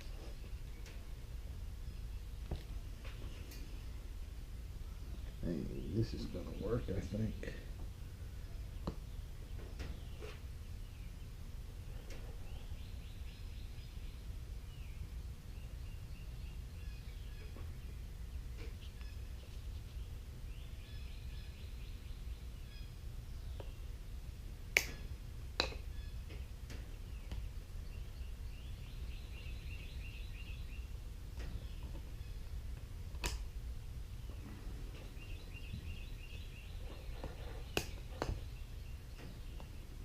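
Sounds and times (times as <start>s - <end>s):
faint bird chirping: 0.0s - 33.0s, 33.7s - 40.0s
low steady rumble: 0.0s - 40.0s.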